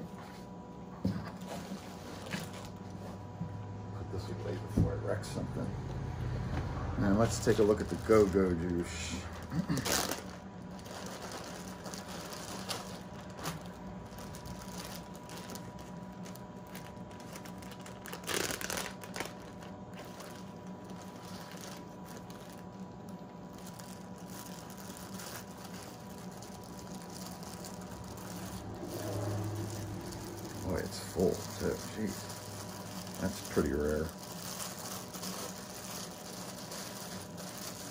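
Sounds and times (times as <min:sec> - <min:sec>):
steady low hum: 0:00.0 - 0:37.9
plastic bag crinkling: 0:01.4 - 0:03.2, 0:07.1 - 0:37.9.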